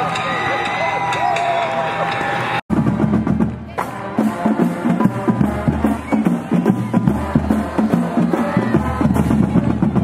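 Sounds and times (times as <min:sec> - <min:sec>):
driving drum beat: 0:00.0 - 0:10.0.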